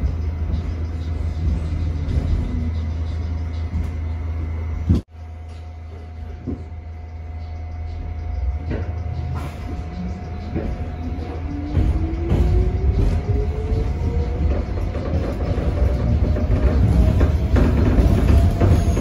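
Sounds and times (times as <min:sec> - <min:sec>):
subway car rumble: 0:00.0 - 0:19.0.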